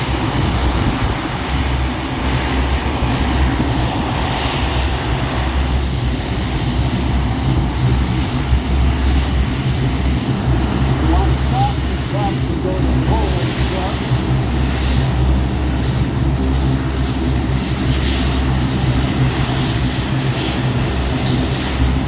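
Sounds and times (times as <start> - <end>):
turboprop engines droning: 0.0 - 22.0.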